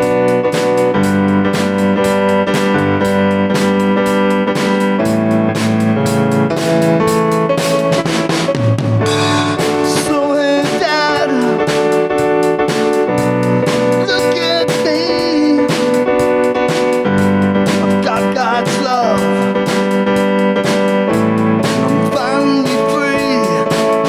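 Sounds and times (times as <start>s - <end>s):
keyboard chords: 0.0s - 24.0s
pitch-bending lead melody: 0.0s - 24.0s
steady drum beat: 0.0s - 24.0s.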